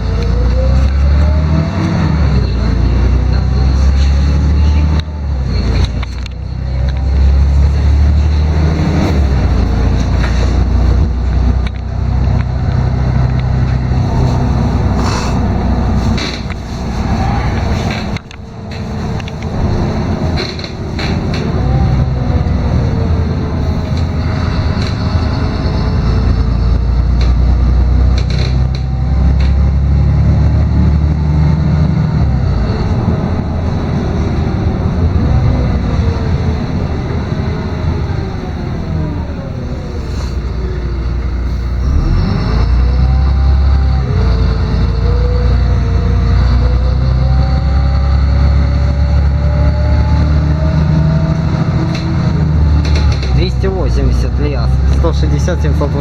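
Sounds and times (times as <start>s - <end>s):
bus diesel engine drone: 0.0s - 56.0s
drivetrain whine: 0.0s - 56.0s
road noise: 0.0s - 56.0s.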